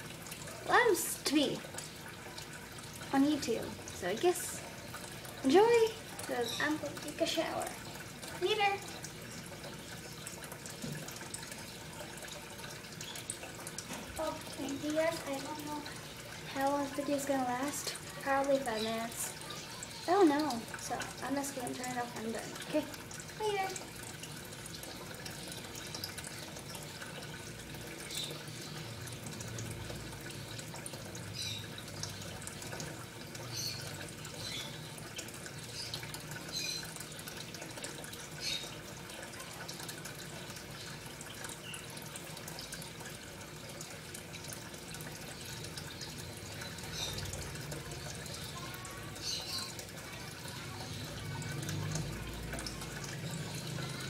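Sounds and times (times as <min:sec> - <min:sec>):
drips and bubbles: 0:00.0 - 0:54.0
water trickling: 0:00.0 - 0:54.0.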